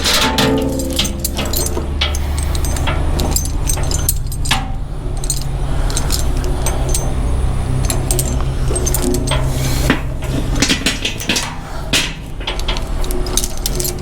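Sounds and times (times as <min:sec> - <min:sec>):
loader engine running: 0:00.0 - 0:14.0
metal chain clinking: 0:00.0 - 0:14.0.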